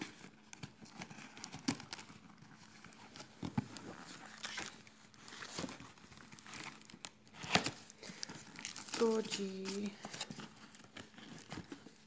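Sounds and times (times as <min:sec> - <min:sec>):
rustling of cardboard and packing: 0:00.0 - 0:12.0.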